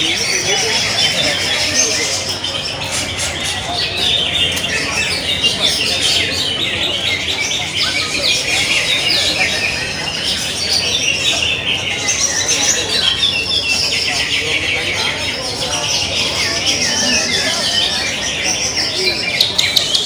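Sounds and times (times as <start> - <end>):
birds chirping and whistling: 0.0 - 20.0
murmur of voices: 0.0 - 20.0.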